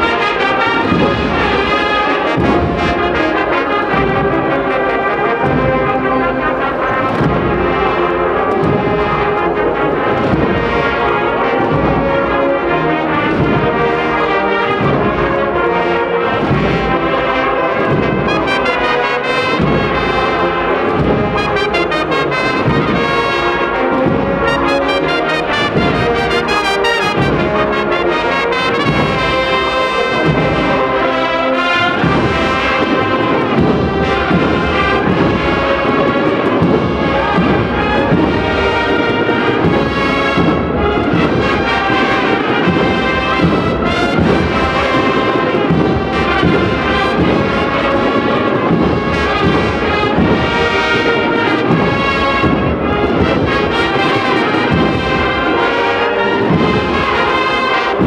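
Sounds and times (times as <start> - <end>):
brass band playing a march: 0.0 - 58.0
steady drum beat: 0.0 - 58.0.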